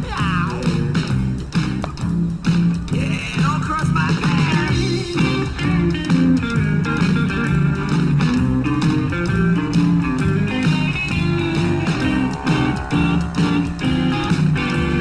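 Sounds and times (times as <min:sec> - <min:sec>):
guitar-led song with steady beat: 0:00.0 - 0:15.0.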